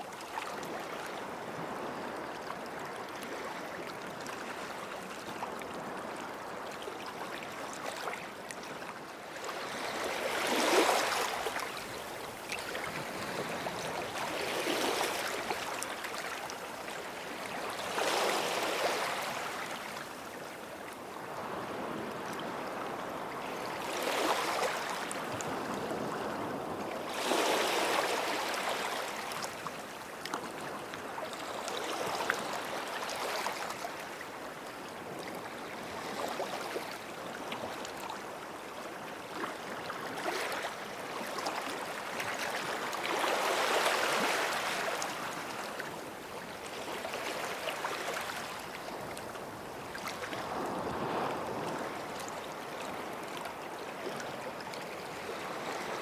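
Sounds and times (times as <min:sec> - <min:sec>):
small waves washing on beach: 0:00.3 - 0:56.0.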